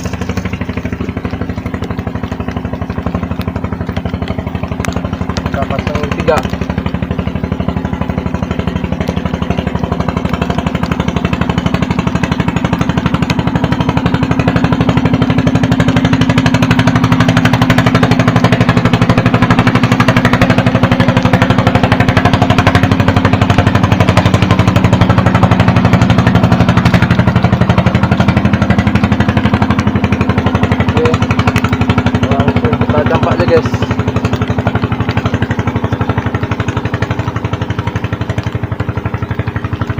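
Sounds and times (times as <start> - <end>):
engine running with pulsing beat: 0.0 - 39.9.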